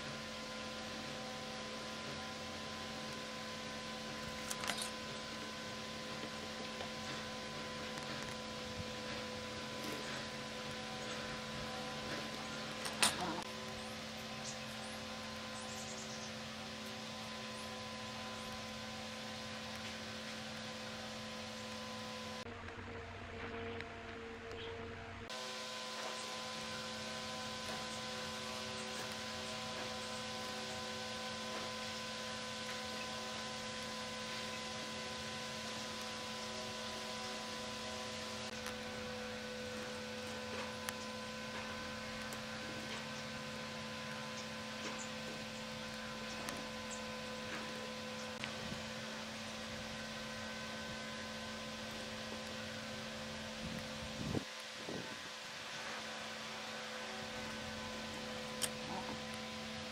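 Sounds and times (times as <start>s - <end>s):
electrical hum: 0.0s - 59.9s.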